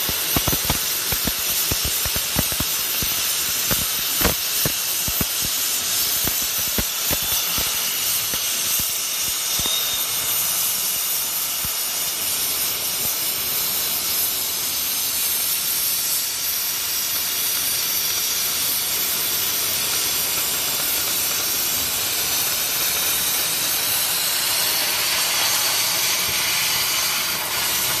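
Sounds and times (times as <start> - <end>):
crackling pops of sparks: 0.0 - 14.4, 15.1 - 28.0
cutting torch hissing: 0.0 - 28.0.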